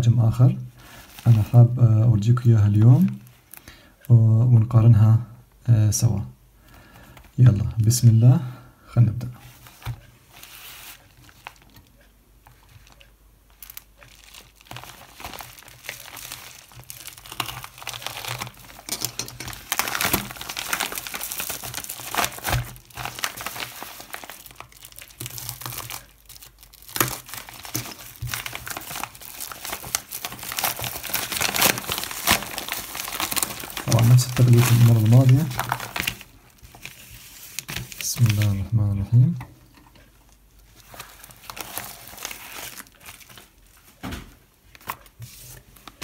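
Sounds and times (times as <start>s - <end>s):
plastic packaging crinkling: 0.8s - 3.9s, 9.4s - 38.8s, 39.7s - 46.0s.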